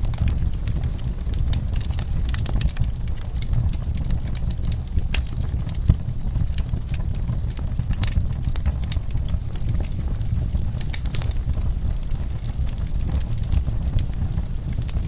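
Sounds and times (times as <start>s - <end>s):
fire pops and snaps: 0.0s - 15.0s
low fire rumble: 0.0s - 15.0s
wood fire crackling: 0.0s - 15.0s.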